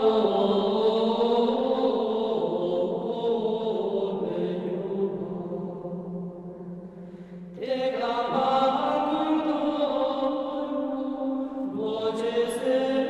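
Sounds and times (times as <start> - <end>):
chanted vocal music: 0.0 - 13.0.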